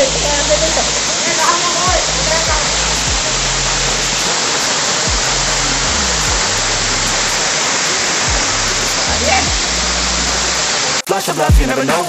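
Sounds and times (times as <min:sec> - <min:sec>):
hip-hop music with deep bass: 0:00.0 - 0:12.0
waterfall rushing: 0:00.0 - 0:12.0.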